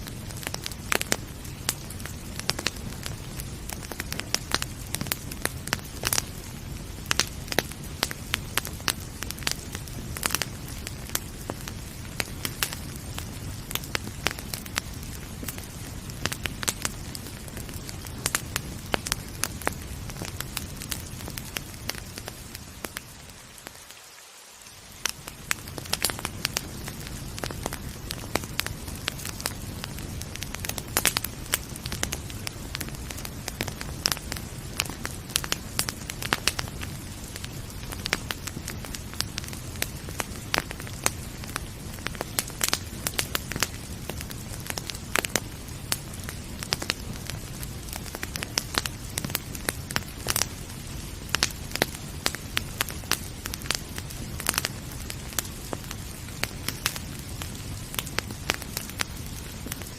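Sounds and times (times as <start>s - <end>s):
rain hiss: 0.0s - 59.9s
wood fire crackling and popping: 0.0s - 59.9s.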